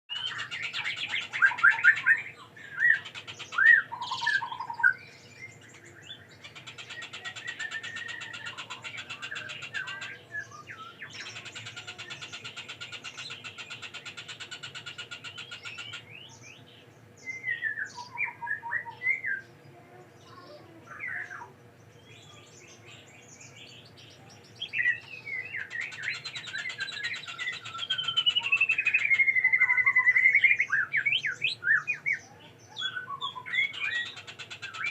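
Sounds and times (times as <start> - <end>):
bird chirping and trilling: 0.1 - 34.9.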